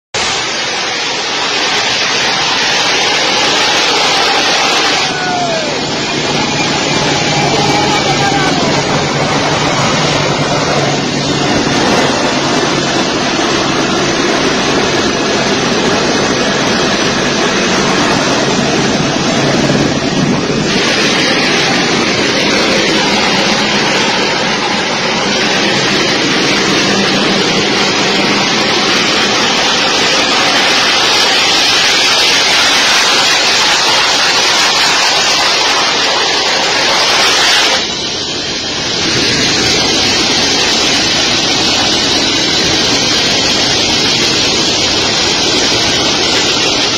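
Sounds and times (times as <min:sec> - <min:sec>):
jet engines roaring: 0:00.0 - 0:46.9
wind rushing on microphone: 0:00.1 - 0:46.9.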